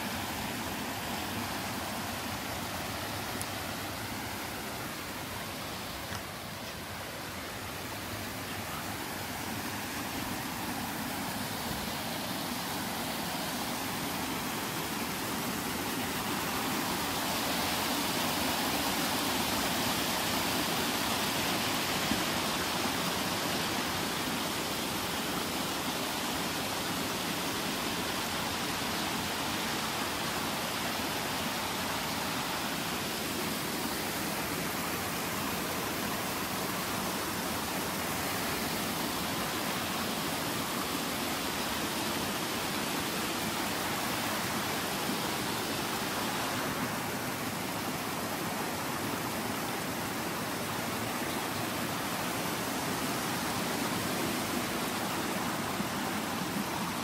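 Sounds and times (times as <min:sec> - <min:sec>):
stream and waterfall rushing: 0:00.0 - 0:57.0.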